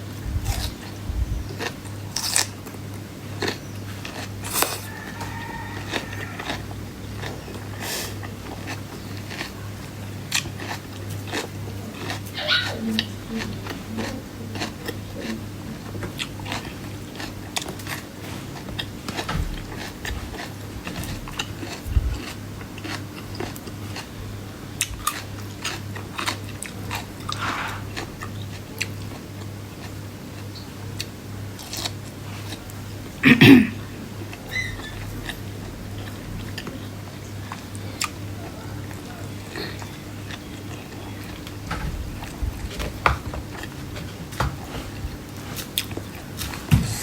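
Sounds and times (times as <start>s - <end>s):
chewing and crunching food: 0.0s - 33.2s, 33.8s - 47.0s
steady low hum: 0.0s - 47.0s.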